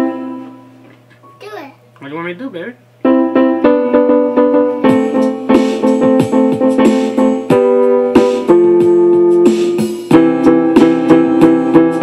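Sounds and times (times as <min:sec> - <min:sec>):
electronic keyboard chords: 0:00.0 - 0:01.6, 0:03.0 - 0:12.0.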